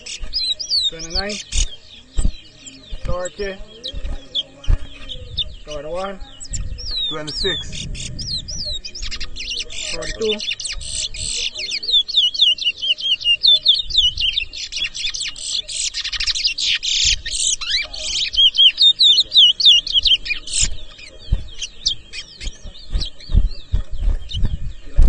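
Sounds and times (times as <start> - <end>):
finches singing rapid chirps: 0.0 - 25.0.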